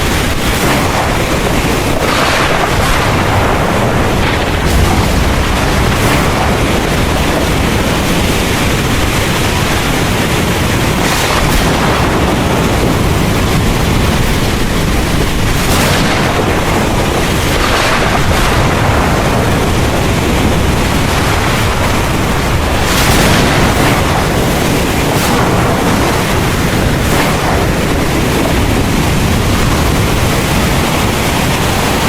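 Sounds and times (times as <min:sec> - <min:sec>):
heavy rain pouring: 0:00.0 - 0:32.0
low thunder rumble: 0:00.0 - 0:32.0.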